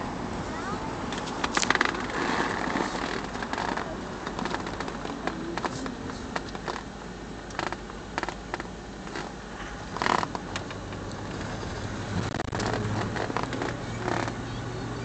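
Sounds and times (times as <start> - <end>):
car cabin rumble: 0.0 - 15.0
small clicks and rustles: 1.1 - 14.5.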